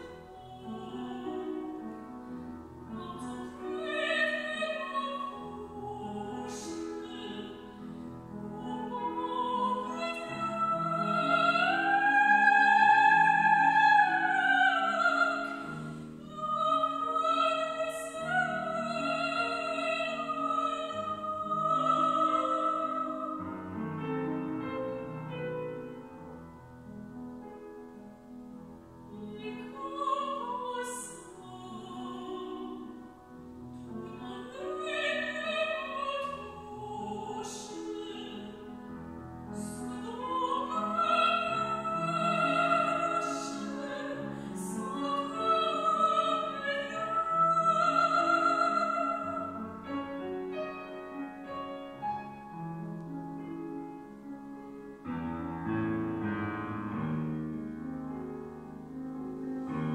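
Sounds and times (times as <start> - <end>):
grand piano accompaniment: 0.0 - 59.9
soprano singing: 0.0 - 59.9.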